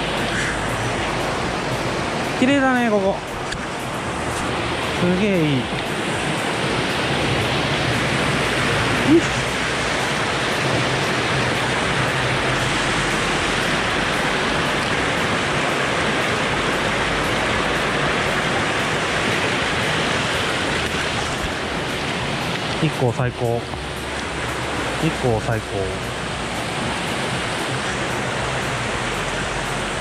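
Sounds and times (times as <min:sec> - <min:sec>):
stream water rushing over rocks: 0:00.0 - 0:30.0.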